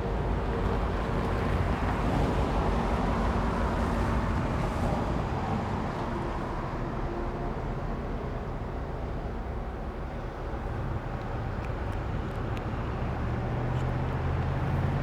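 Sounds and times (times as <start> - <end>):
diesel locomotive engine rumbling: 0.0 - 15.0.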